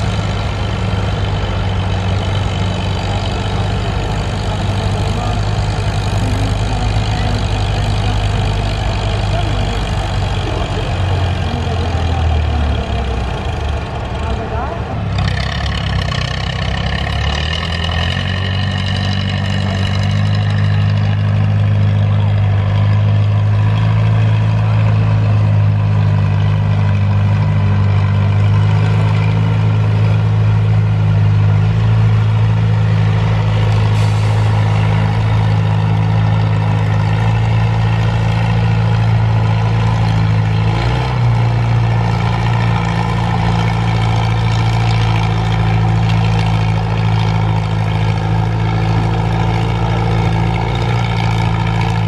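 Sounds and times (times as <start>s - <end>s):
tractor engine under heavy load: 0.0s - 52.0s.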